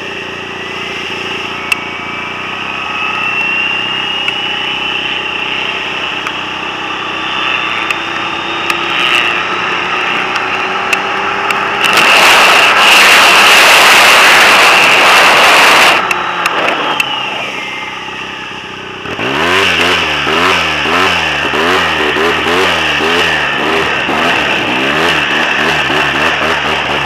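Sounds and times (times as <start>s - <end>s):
snowmobile engine revving: 0.0s - 27.0s
turbo whine falling in pitch: 0.0s - 27.0s.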